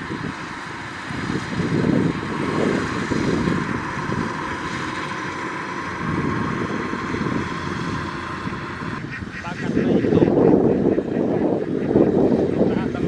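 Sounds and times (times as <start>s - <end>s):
combine harvester diesel engine: 0.0s - 13.0s
thin constant whine: 0.0s - 13.0s
wind buffeting microphone: 0.0s - 13.0s.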